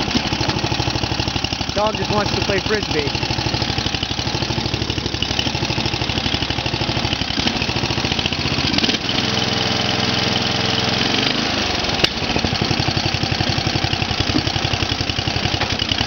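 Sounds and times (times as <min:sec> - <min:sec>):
lawn tractor engine running: 0:00.0 - 0:16.0.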